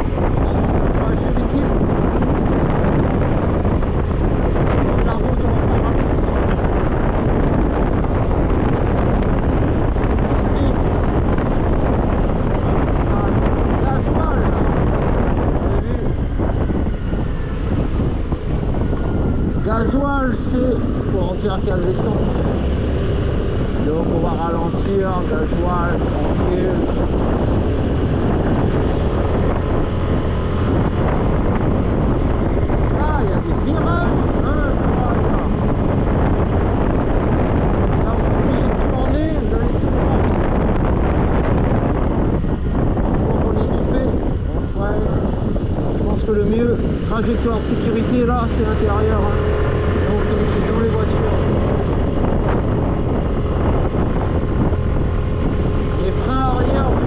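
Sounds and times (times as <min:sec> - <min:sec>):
scooter engine running: 0:00.0 - 0:57.0
wind rushing across microphone: 0:00.0 - 0:57.0.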